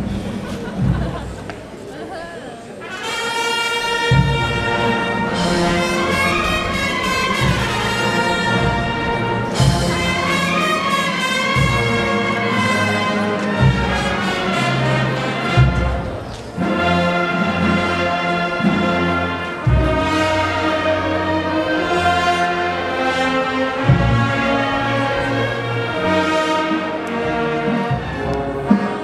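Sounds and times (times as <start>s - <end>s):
brass band playing a slow march: 0.0s - 1.4s, 2.8s - 29.0s.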